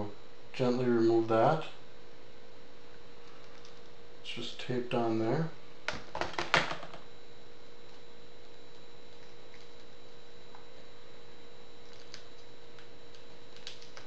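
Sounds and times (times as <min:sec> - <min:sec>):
thin high whine: 0:00.0 - 0:05.9, 0:06.9 - 0:14.0
electrical hum: 0:00.0 - 0:14.0.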